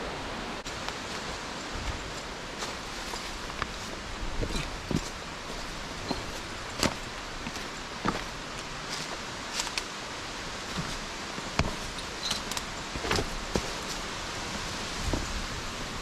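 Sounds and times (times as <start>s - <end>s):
stream running water: 0.0s - 16.0s.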